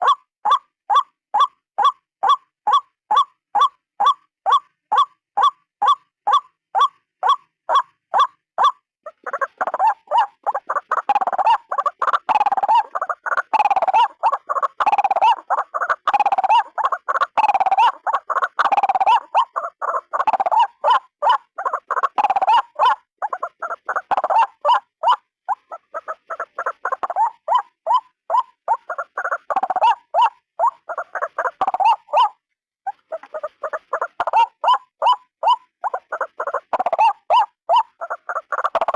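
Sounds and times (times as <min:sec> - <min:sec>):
waterhen harsh calls: 0:00.0 - 0:38.9.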